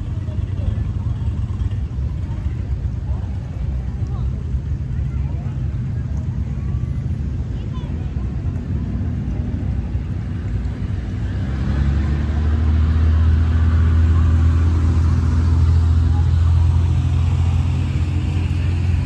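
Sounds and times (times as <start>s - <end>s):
shallow river water rushing: 0.0s - 19.0s
vehicle engine rumble: 0.0s - 19.0s.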